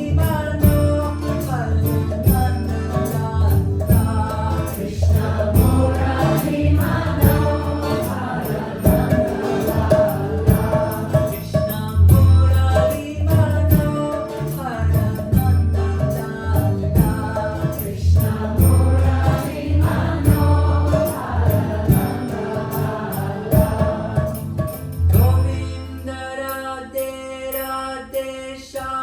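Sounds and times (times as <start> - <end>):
instrumental accompaniment with beat: 0.0 - 26.0
call-and-response devotional chant: 3.4 - 12.2, 12.8 - 29.0.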